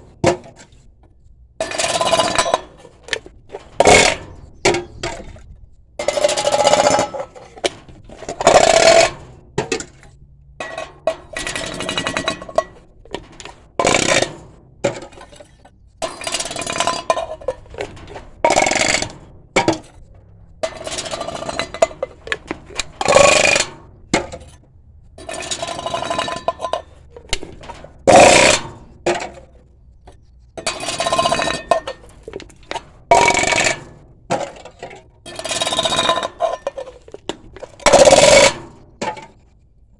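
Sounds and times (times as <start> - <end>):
metal cans being crushed: 1.6 - 29.6, 30.6 - 39.4.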